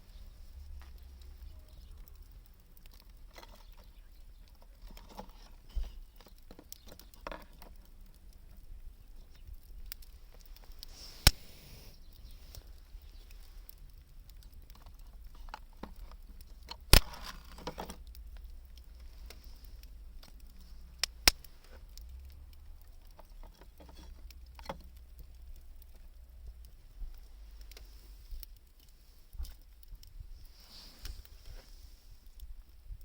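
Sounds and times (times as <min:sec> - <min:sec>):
campfire crackling: 0:00.0 - 0:33.0
fire sharp pops: 0:00.0 - 0:33.0.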